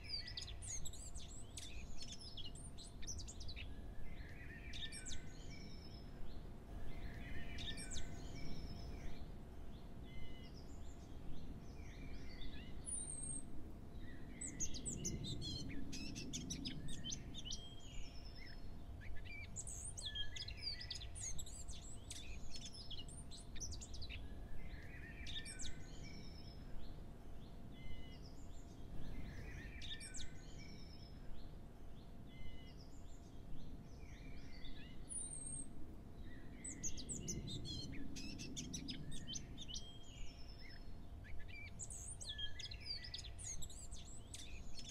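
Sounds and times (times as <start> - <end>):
birds chirping and singing: 0.0 - 35.7, 36.3 - 44.9.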